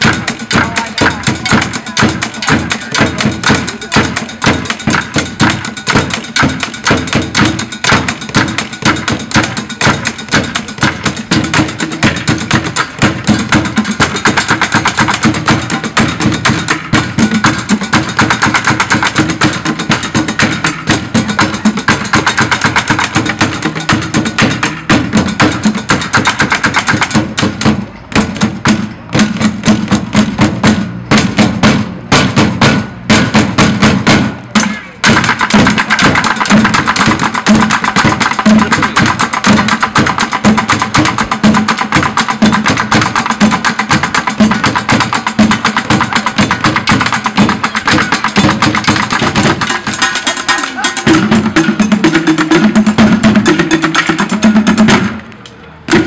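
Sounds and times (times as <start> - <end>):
drumming on pots and buckets: 0.0 - 56.0.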